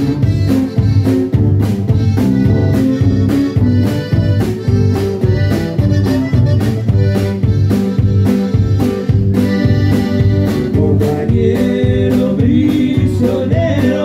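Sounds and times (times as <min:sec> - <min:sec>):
button accordion: 0:00.0 - 0:14.0
drum kit beat: 0:00.0 - 0:14.0
electric bass: 0:00.0 - 0:14.0.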